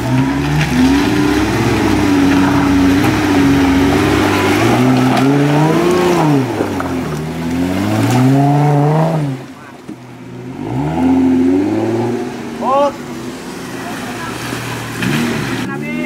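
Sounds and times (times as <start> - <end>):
engine revving under load: 0.0 - 16.0.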